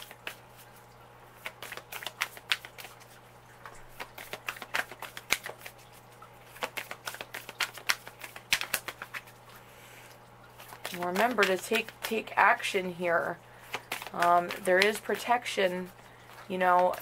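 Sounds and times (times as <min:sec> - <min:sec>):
cards being shuffled: 0:00.0 - 0:00.7, 0:01.3 - 0:09.4, 0:10.5 - 0:12.7, 0:13.6 - 0:17.0.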